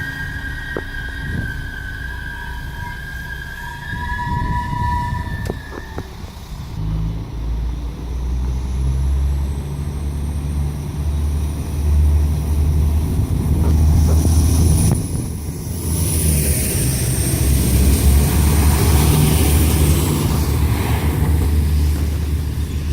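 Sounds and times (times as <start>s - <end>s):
diesel railcar engine rumbling: 0.0s - 22.9s.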